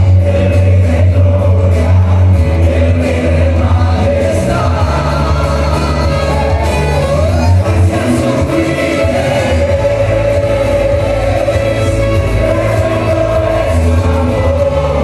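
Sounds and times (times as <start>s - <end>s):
band with heavy bass: 0.0s - 15.0s
choir singing worship song: 0.0s - 15.0s.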